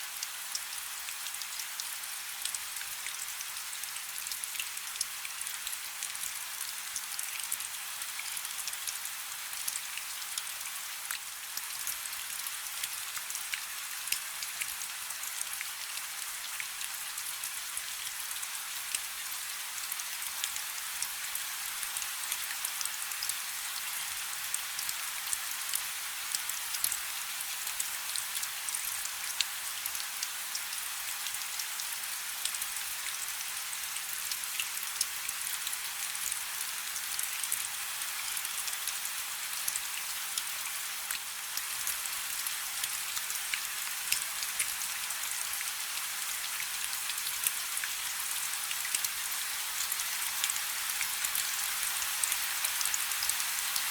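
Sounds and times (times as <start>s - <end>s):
rain falling on a river: 0.0s - 53.9s.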